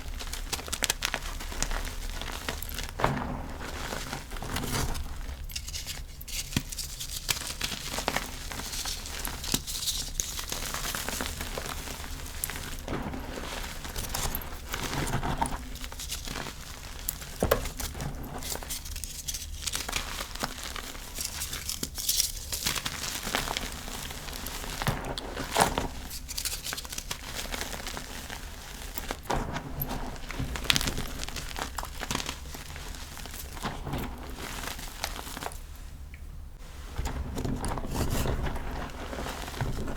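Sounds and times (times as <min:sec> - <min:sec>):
chalk crunching and crackling: 0:00.0 - 0:35.8.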